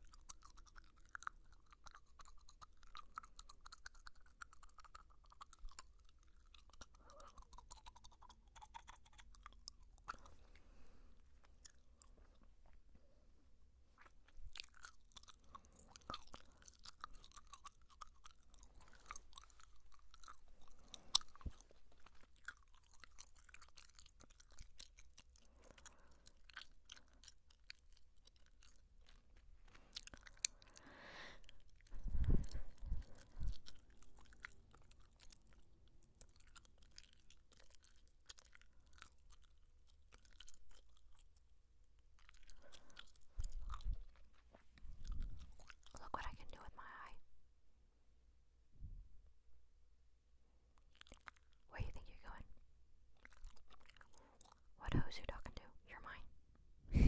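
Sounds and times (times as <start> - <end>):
gum chewing: 0.0 - 13.2, 13.8 - 47.2, 50.7 - 52.5, 53.1 - 56.2.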